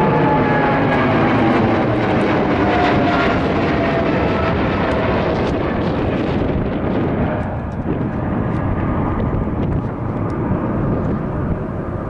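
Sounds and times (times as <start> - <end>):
jet engine noise with whine: 0.0 - 12.0.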